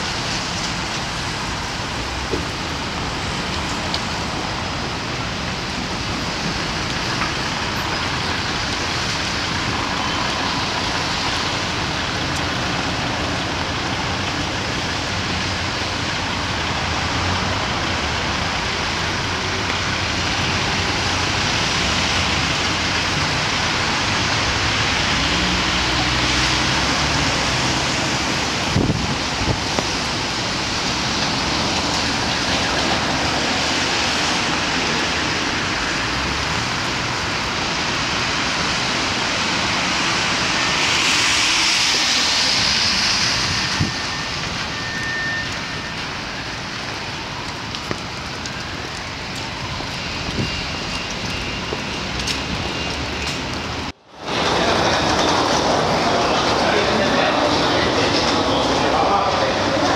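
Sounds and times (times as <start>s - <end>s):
cars driving on wet road: 0.0s - 59.9s
steady rain: 0.0s - 59.9s.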